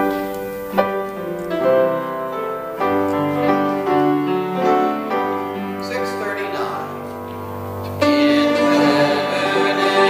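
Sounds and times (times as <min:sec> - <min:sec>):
piano playing slow hymn chords: 0:00.0 - 0:10.0.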